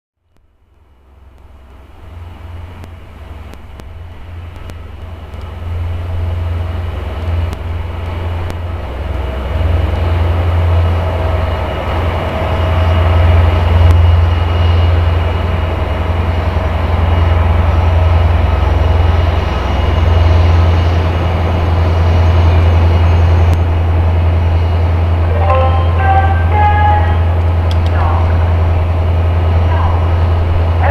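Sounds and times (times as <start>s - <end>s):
diesel locomotive engine humming: 0.2s - 30.9s.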